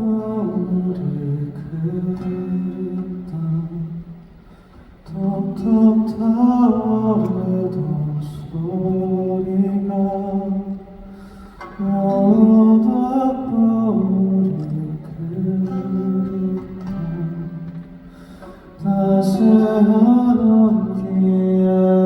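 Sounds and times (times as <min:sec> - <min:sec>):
man singing wordless melody: 0:00.0 - 0:04.2, 0:05.0 - 0:22.0.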